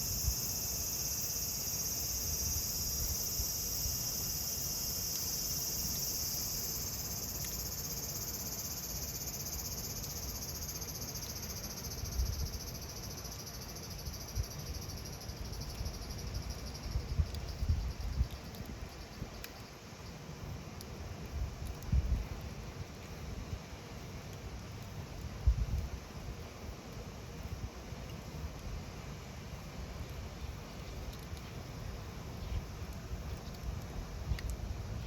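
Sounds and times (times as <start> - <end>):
cicadas droning: 0.0 - 35.0.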